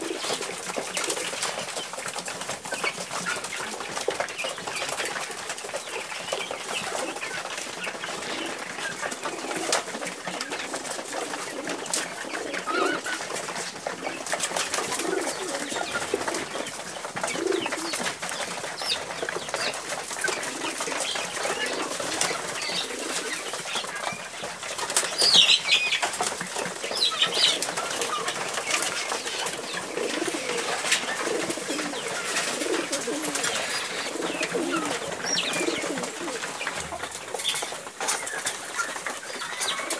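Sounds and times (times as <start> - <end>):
pigeons cooing: 0.0 - 39.9
wings flapping: 0.0 - 39.9.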